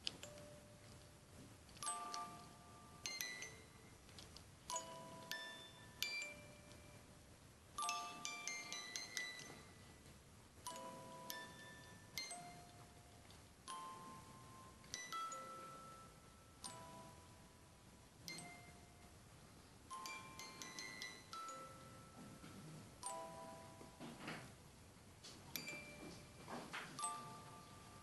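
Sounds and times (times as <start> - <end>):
music box playing slow tune: 0.0 - 28.0.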